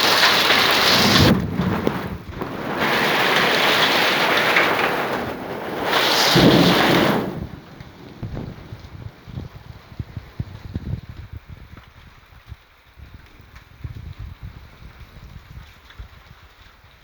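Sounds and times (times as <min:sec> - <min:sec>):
strong wind: 0:00.0 - 0:16.7
hail and rain pelting: 0:00.0 - 0:17.0.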